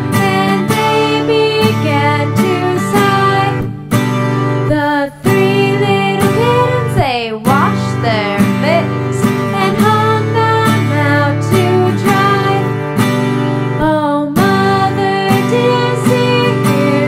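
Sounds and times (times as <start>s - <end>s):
woman singing: 0.0s - 13.0s, 13.6s - 17.0s
strummed acoustic guitar: 0.0s - 17.0s.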